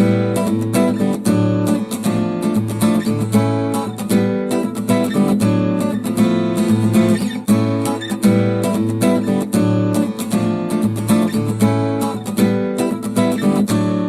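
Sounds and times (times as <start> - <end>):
acoustic guitar ringtone: 0.0 - 14.0.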